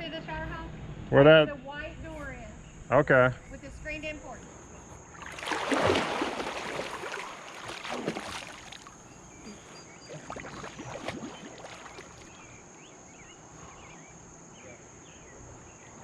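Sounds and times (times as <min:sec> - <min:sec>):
high insect trill: 0:01.7 - 0:16.0.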